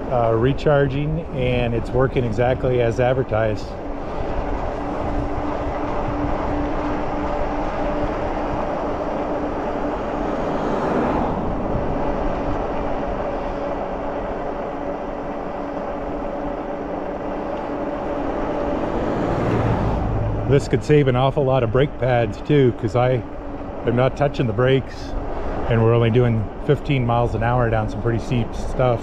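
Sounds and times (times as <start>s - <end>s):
car passing: 0.0s - 29.0s
steady motor hum: 0.0s - 29.0s
wind and tyre noise: 0.0s - 29.0s.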